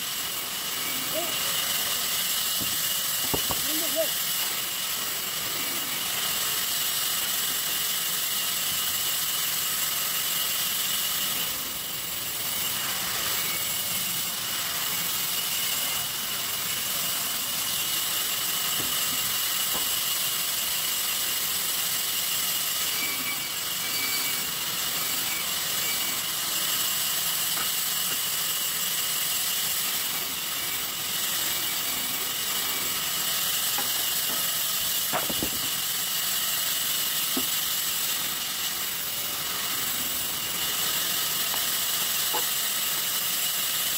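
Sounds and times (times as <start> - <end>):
sawmill saw whining: 0.0 - 43.9.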